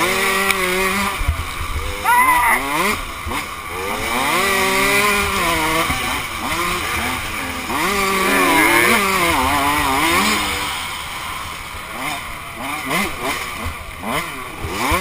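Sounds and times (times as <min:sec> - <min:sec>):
dirt bike engine revving: 0:00.0 - 0:02.0, 0:02.6 - 0:15.0.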